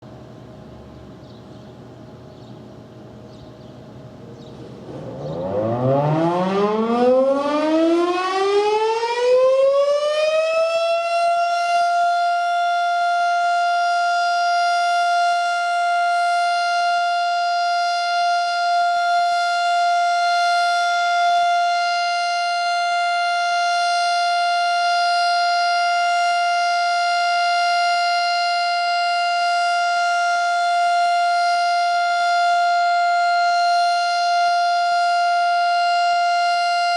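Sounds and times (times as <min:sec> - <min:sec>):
outdoor warning siren winding up: 0:04.8 - 0:36.9.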